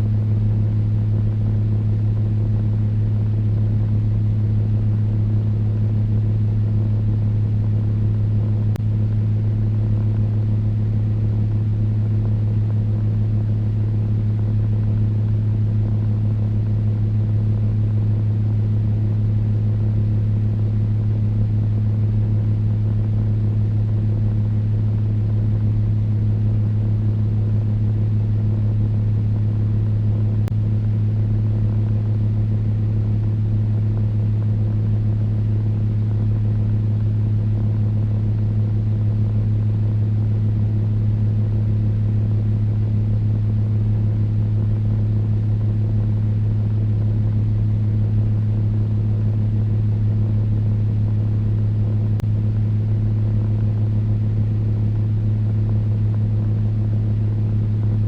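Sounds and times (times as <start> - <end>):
electric fan humming: 0.0 - 58.0.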